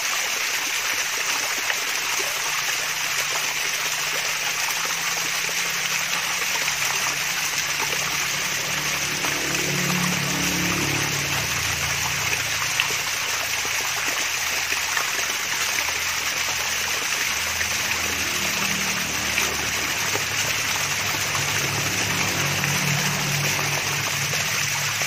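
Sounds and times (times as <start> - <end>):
low water gurgle: 0.0 - 25.0
water trickling and splashing: 0.0 - 25.0.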